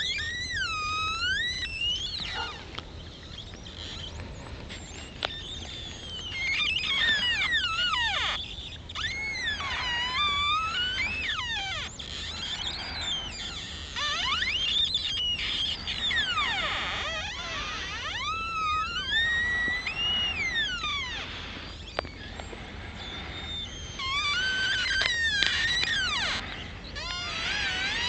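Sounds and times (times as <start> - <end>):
ice singing and creaking: 0.0 - 28.0.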